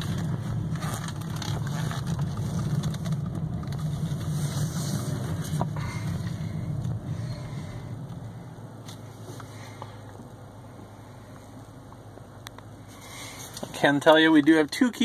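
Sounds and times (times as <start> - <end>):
car engine running at low revs: 0.0 - 15.0
road noise: 0.0 - 15.0.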